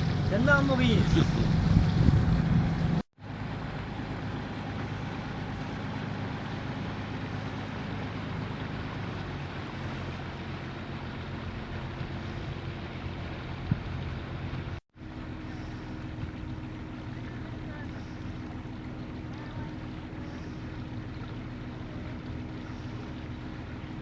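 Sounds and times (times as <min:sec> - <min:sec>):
boat engine running: 0:00.0 - 0:24.0
wind and water hiss: 0:00.0 - 0:24.0.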